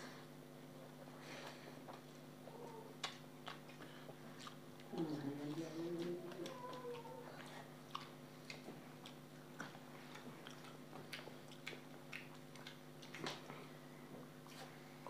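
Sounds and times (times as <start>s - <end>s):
low steady hum: 0.0s - 15.0s
person chewing: 1.4s - 13.8s.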